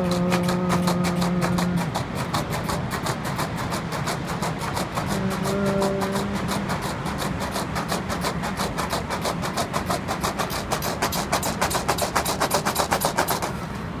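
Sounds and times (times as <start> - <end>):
rapid rhythmic rattling strokes: 0.0 - 13.6
steady low hum: 0.0 - 14.0.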